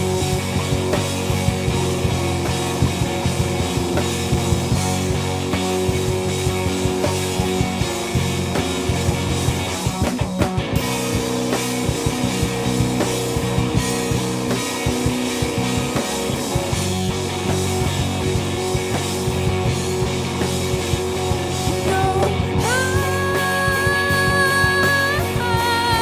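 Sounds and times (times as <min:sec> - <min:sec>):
drum kit: 0:00.0 - 0:26.0
electric guitar: 0:00.0 - 0:26.0.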